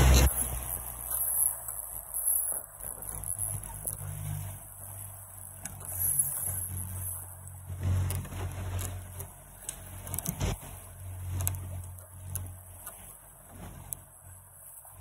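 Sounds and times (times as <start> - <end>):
outboard motor running: 0.0 - 15.0
water rushing past hull: 0.0 - 15.0.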